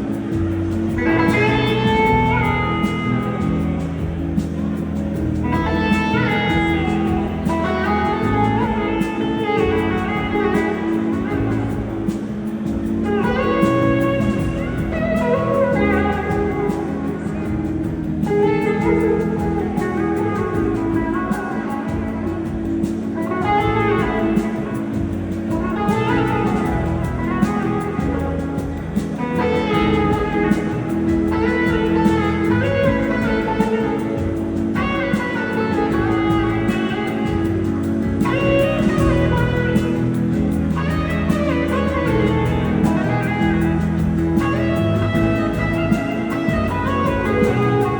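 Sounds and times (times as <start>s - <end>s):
electric slide guitar: 0.0s - 47.9s
live band playing soul-blues: 0.0s - 47.9s.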